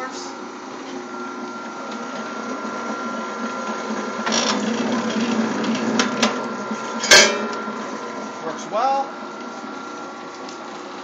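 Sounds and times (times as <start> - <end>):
wire stripping machine humming: 0.0 - 11.0.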